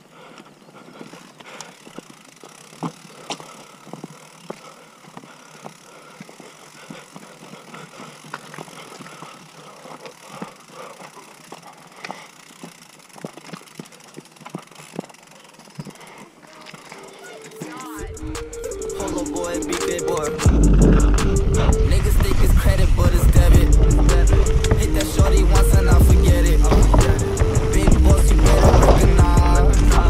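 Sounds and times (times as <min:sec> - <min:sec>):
bike tyres crunching on gravel: 0:00.0 - 0:17.8, 0:20.1 - 0:30.0
bike rattling: 0:00.0 - 0:30.0.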